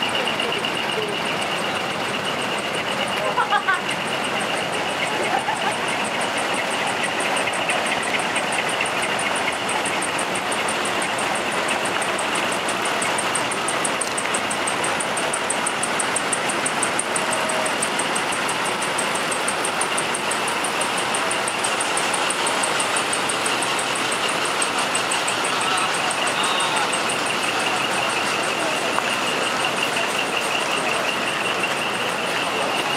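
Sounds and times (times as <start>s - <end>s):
diesel engines idling: 0.0s - 32.9s
fast high ticking: 0.0s - 32.9s
thin steady whine: 0.0s - 32.9s.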